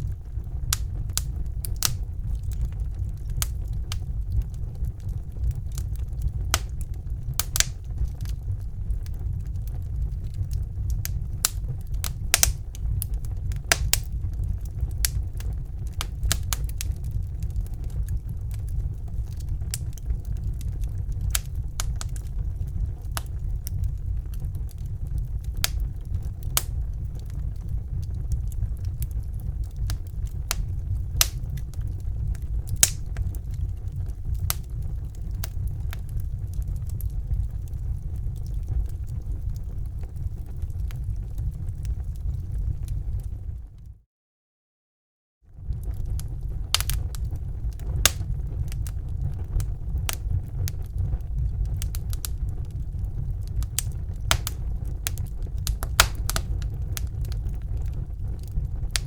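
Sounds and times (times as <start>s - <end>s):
fire crackling: 0.0s - 43.9s, 45.6s - 59.0s.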